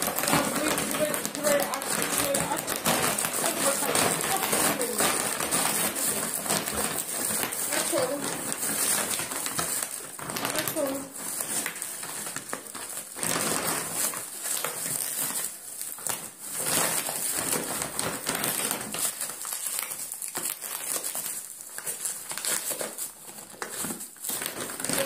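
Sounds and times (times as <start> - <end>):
bubble wrap crinkling: 0.0 - 25.0
packaging tearing: 0.0 - 25.0.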